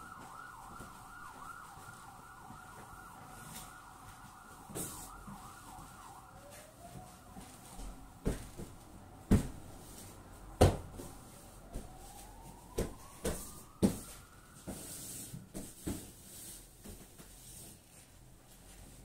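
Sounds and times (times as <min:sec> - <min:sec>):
faint siren: 0:00.0 - 0:16.2.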